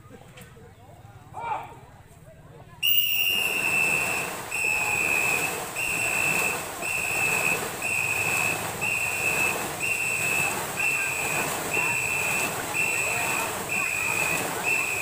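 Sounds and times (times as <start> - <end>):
paddles splashing in water: 2.8 - 15.0
whistle blasts: 2.8 - 15.0.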